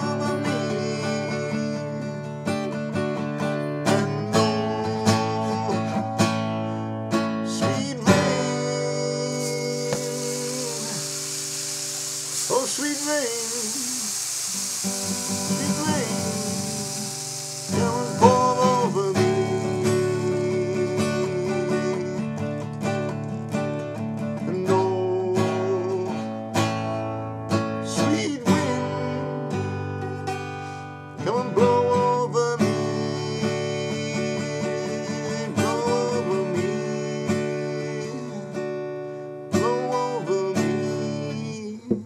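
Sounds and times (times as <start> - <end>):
person singing: 0.0 - 2.3, 3.8 - 6.8, 7.5 - 22.6, 24.4 - 26.4, 27.9 - 30.4, 31.2 - 38.6, 39.5 - 42.0
acoustic guitar strumming: 0.0 - 42.0.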